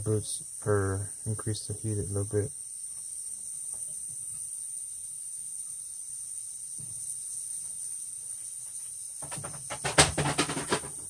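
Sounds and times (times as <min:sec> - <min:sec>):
high-pitched gas hiss: 0:00.0 - 0:11.0.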